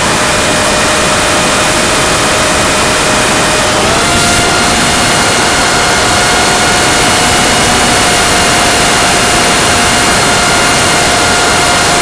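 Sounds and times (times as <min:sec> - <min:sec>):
high motor whine: 0:00.0 - 0:12.0
wind and propeller rush: 0:00.0 - 0:12.0.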